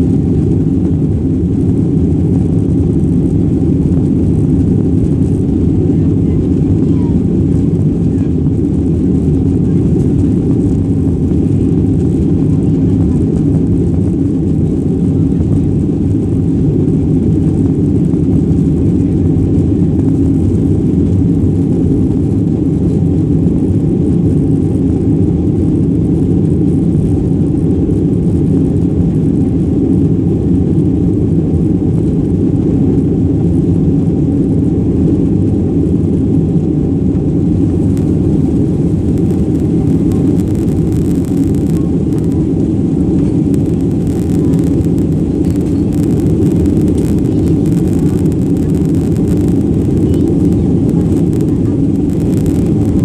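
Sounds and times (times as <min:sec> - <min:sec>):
jet engines at takeoff: 0:00.0 - 0:53.0.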